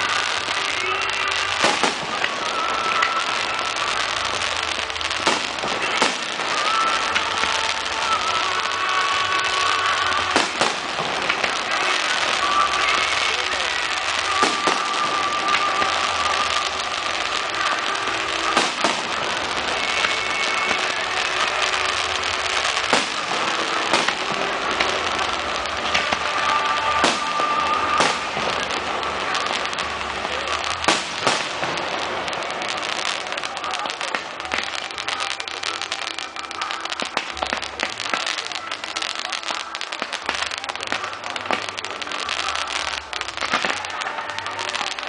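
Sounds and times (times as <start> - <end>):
fireworks bangs: 0.0 - 45.0
fireworks crackling and hissing: 0.0 - 45.0.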